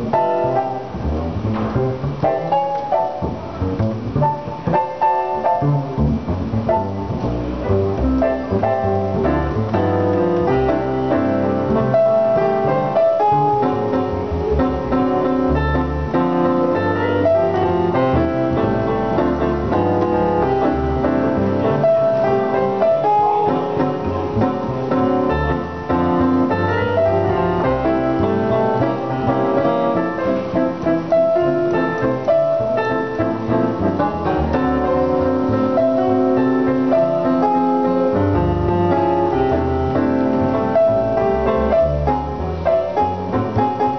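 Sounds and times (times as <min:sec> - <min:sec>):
jazz piano chords and melody: 0:00.0 - 0:43.9
plucked double bass: 0:00.0 - 0:43.9.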